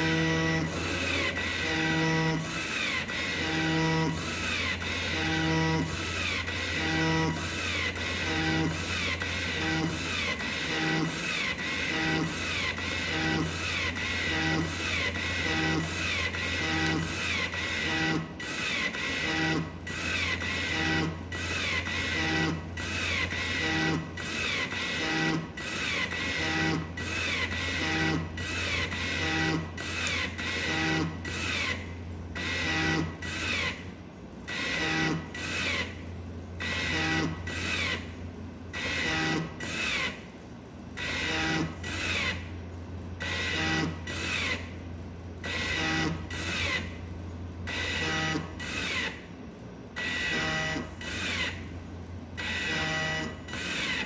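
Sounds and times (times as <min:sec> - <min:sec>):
motor low hum: 0:00.0 - 0:54.0
ventilator breathing cycles: 0:00.0 - 0:54.0.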